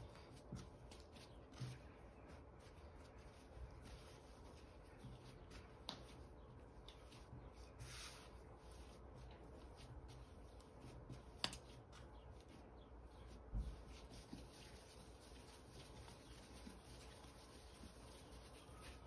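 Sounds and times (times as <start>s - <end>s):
hands shaping bread dough: 0.0s - 19.0s.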